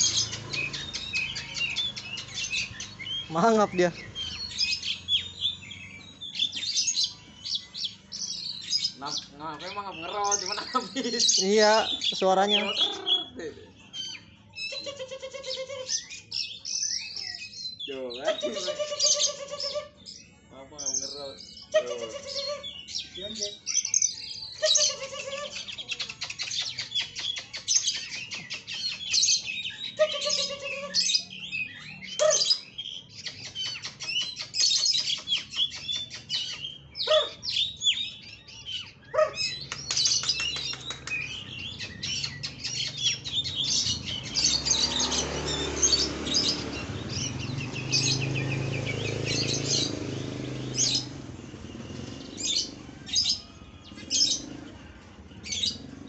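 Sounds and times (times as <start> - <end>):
bird singing chirps and whistles: 0.0 - 56.0.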